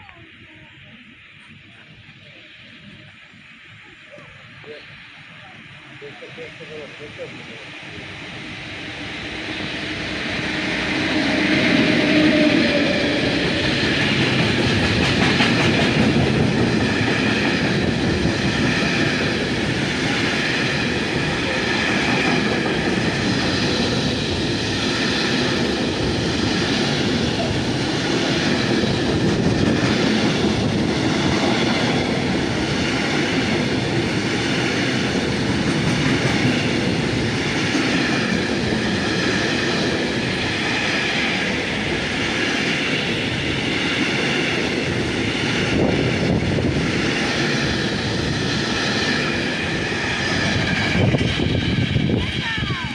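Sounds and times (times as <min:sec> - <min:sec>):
train running: 0:00.0 - 0:52.9.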